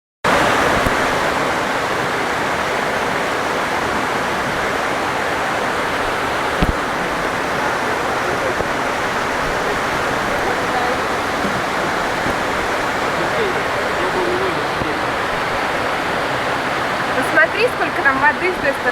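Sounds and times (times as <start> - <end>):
heavy rain pouring: 0.3 - 18.9
running water: 0.3 - 18.9.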